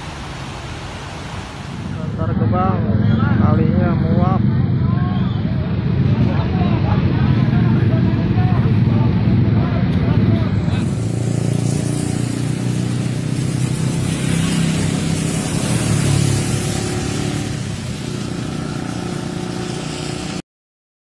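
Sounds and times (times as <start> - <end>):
steady rushing noise: 0.0 - 20.4
vehicle engines humming: 0.0 - 20.4.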